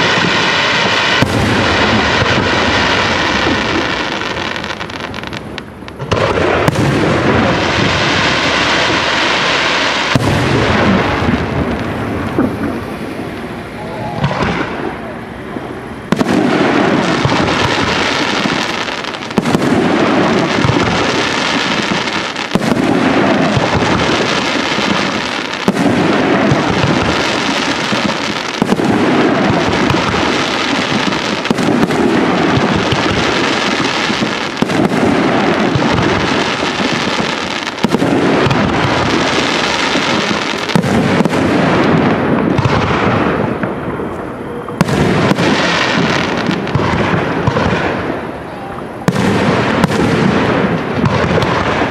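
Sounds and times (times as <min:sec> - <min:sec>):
fireworks bursting: 0:00.0 - 0:51.9.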